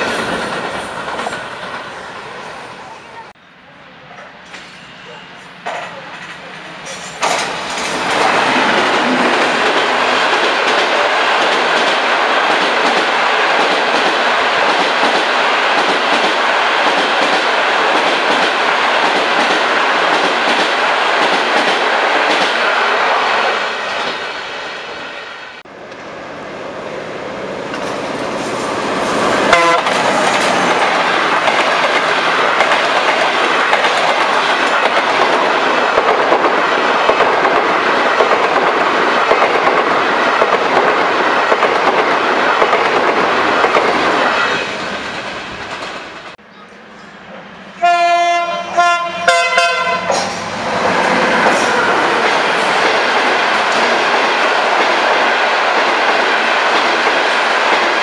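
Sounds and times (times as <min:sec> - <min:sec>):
wheels clickety-clack on rail joints: 0:00.0 - 0:02.0, 0:05.6 - 0:22.7, 0:27.6 - 0:46.7, 0:48.9 - 0:58.0
train passing at speed: 0:00.0 - 0:58.0.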